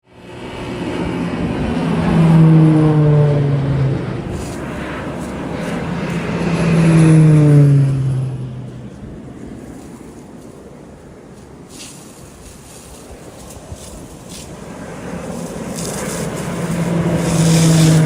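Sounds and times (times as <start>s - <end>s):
propeller aircraft flying past: 0.0s - 18.0s.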